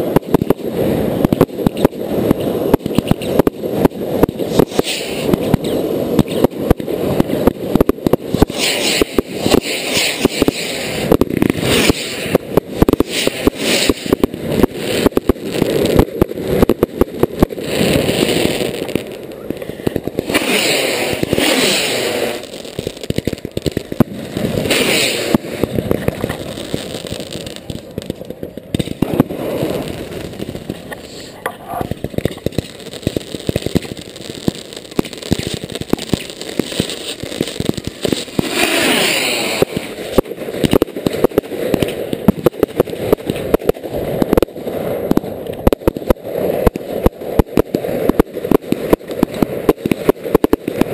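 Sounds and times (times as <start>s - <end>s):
firework cracks and bangs: 0.0s - 50.9s
rockets whooshing: 0.0s - 50.9s.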